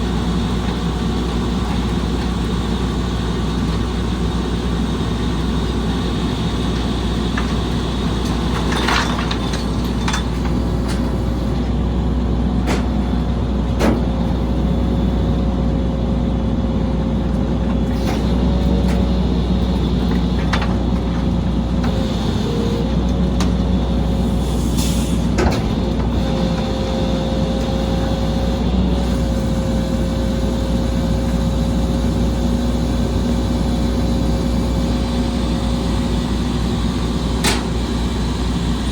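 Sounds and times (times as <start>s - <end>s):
diesel engine rumble: 0.0s - 38.9s.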